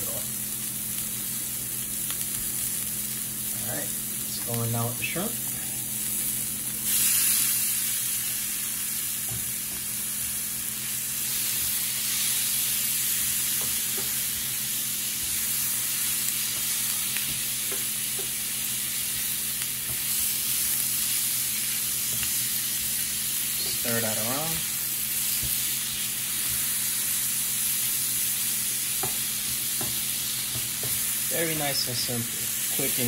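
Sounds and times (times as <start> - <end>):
shrimp sizzling in a hot pan: 0.0 - 33.0.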